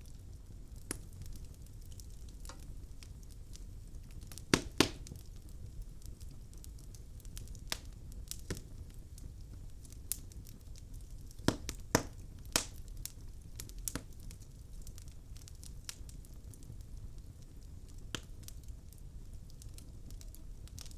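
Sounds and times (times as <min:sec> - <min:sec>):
low rumble of flames: 0:00.0 - 0:20.9
wood fire crackling and popping: 0:00.0 - 0:20.9.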